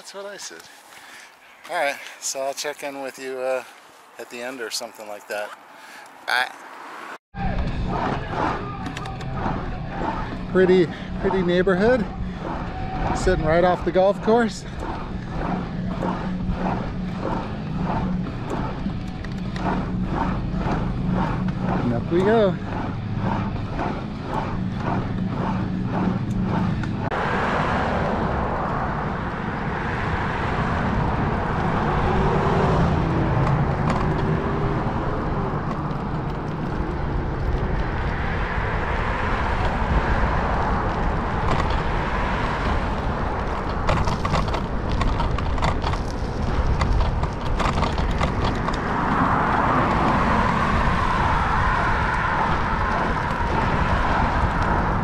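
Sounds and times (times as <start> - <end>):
road noise: 0.0 - 55.0
wind rushing: 7.0 - 55.0
low hum: 7.4 - 55.0.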